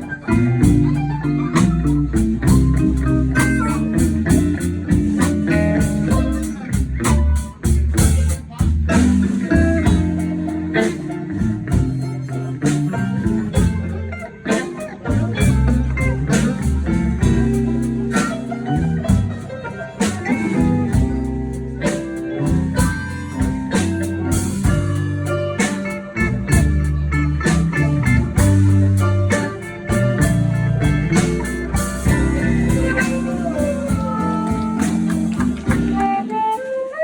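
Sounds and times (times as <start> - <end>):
bass and drums: 0.0 - 37.0
blues guitar: 0.0 - 37.0.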